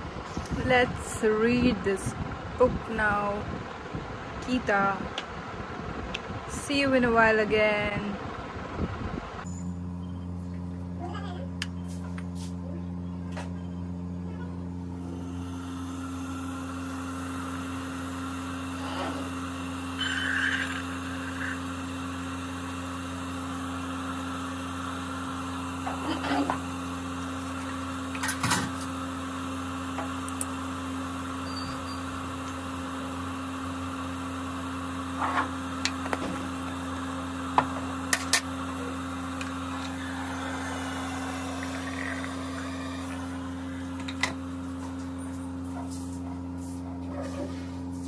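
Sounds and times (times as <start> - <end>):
kitchen appliance humming: 8.5 - 48.0.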